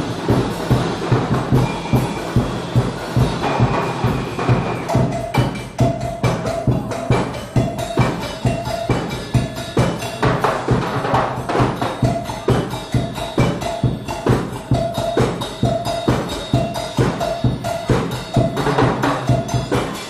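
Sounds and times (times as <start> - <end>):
fast steady drum beat: 0.0 - 20.0.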